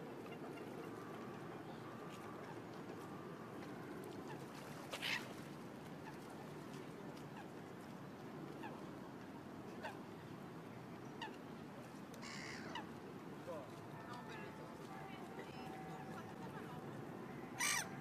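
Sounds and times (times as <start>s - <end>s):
low background noise: 0.0s - 18.0s
water birds calling: 0.0s - 18.0s.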